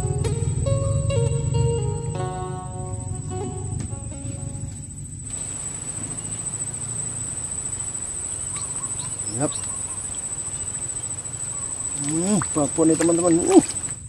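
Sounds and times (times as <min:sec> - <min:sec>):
high-pitched insect trill: 0:00.1 - 0:14.0.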